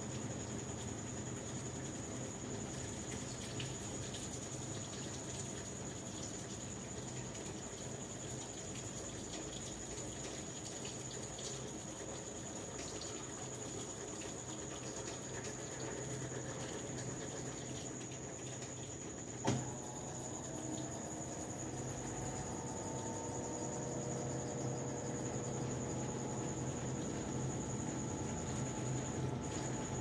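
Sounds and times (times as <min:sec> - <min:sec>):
water running into washing machine: 0:00.0 - 0:30.0.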